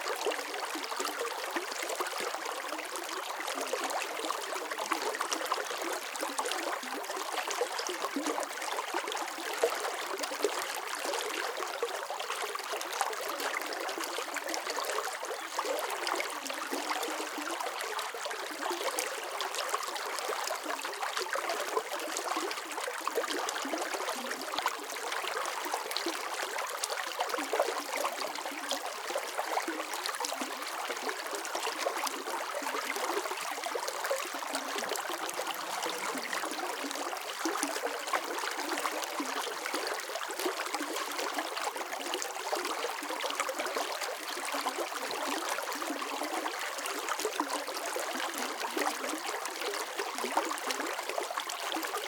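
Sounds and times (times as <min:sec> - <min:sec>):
stream water flowing: 0:00.0 - 0:52.0.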